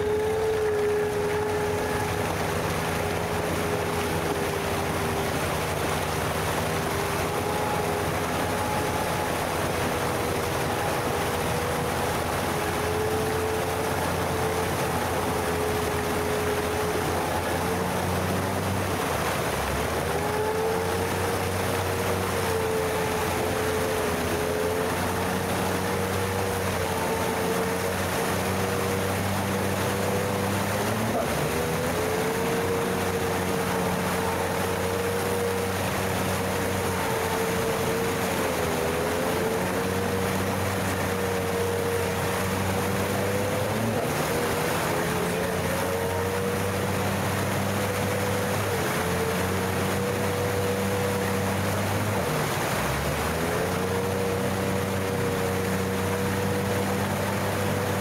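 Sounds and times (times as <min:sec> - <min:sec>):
all-terrain vehicle engine whine: 0:00.0 - 0:58.0.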